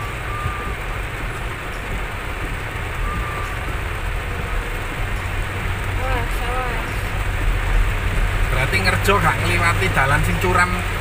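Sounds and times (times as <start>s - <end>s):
car engine and tyres rumbling: 0.0s - 11.0s
heavy rain on car roof: 0.0s - 11.0s.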